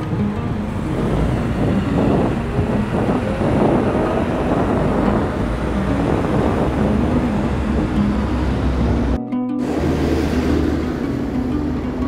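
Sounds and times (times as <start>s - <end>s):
tractor engines running: 0.0s - 12.0s.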